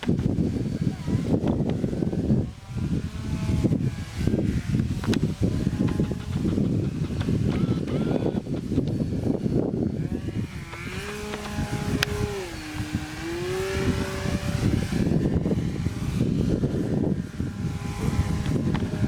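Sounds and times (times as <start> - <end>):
motor whine: 0.0 - 19.0
wind buffeting microphone: 0.0 - 19.0.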